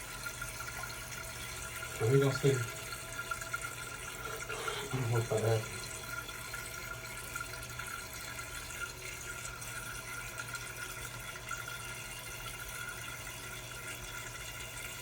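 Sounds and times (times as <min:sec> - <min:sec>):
toilet tank refilling hiss: 0:00.0 - 0:15.0.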